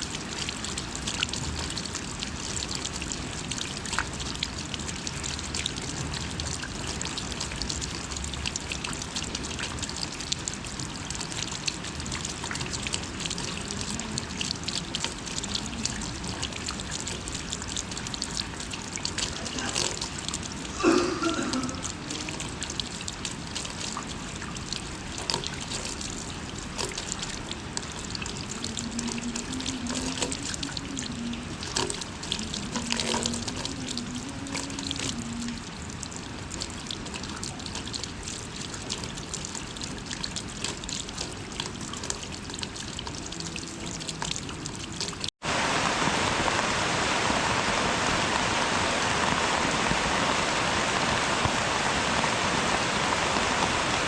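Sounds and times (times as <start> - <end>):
rain drops dripping: 0.0 - 54.0
steady hiss of rain: 0.0 - 54.0.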